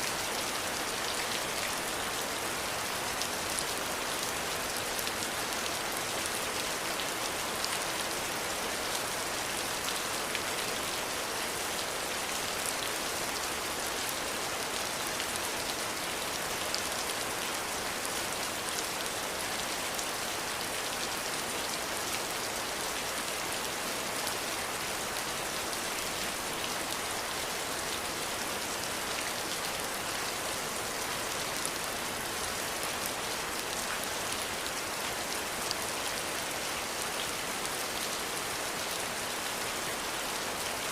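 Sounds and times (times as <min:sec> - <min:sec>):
gentle rain pattering: 0:00.0 - 0:40.9.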